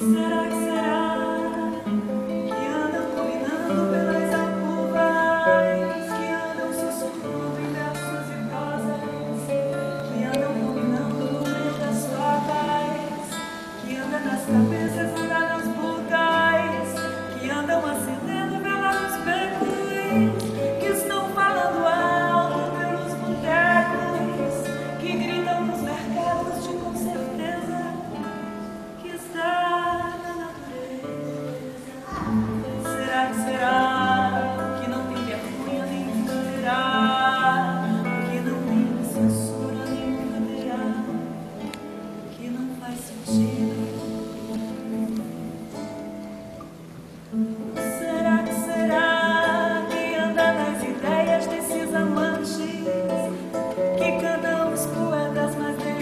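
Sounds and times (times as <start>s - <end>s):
woman singing: 0.0s - 46.6s, 47.3s - 56.0s
classical guitar: 0.0s - 56.0s.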